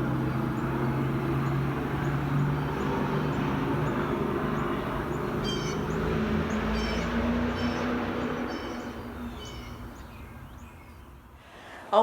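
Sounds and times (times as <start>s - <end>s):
birds calling high: 0.0s - 11.6s.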